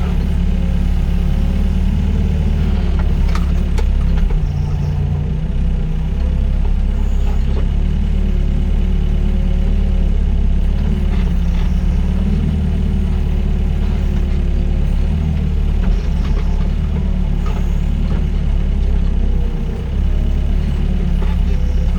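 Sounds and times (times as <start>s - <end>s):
excavator diesel engine humming: 0.0s - 21.9s.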